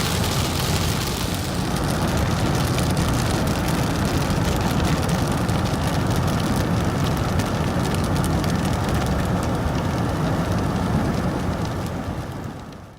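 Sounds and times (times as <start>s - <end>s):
raindrops ticking on car: 0.0s - 12.9s
road and engine rumble: 0.0s - 12.9s.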